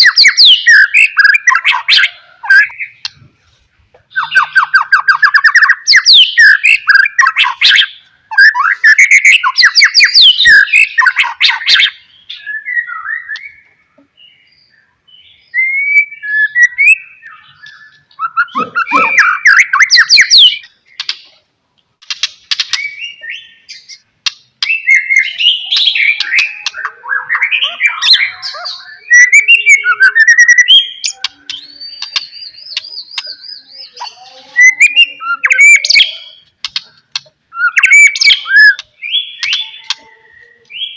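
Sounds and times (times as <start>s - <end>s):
bird singing whistles and trills: 0.0s - 3.1s, 4.1s - 21.1s, 22.5s - 40.9s.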